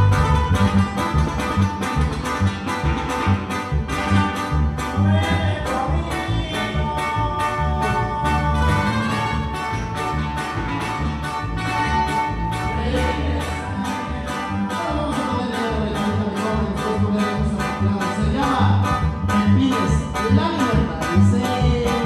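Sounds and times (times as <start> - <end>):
dance music with guitars and bass: 0.0 - 22.0.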